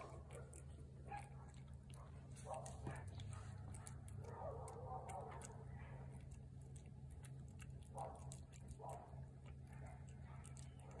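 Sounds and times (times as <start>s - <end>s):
cat chewing wet food: 0.0s - 11.0s
low steady hum: 0.0s - 11.0s.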